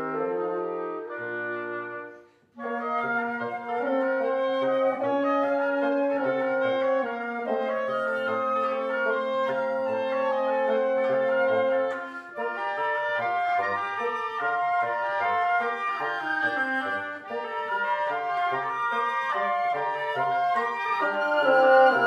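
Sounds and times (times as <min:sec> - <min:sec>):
woodwind quintet playing: 0:00.0 - 0:22.0.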